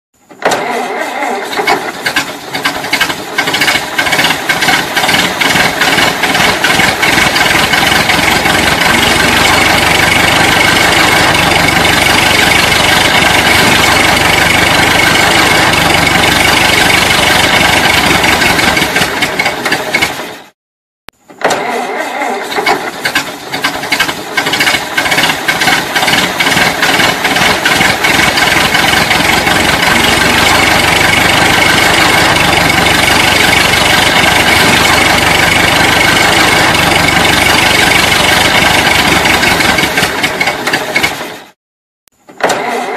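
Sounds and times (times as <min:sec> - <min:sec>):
old car engine clattering: 0:00.4 - 0:20.5, 0:21.4 - 0:41.5.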